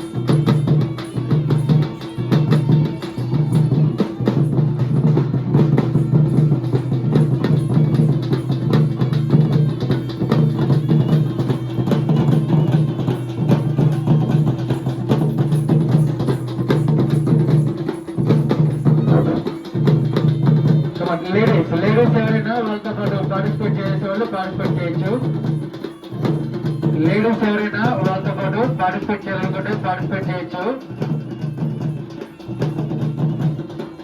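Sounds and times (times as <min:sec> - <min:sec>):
fast drum rhythm: 0:00.0 - 0:34.0.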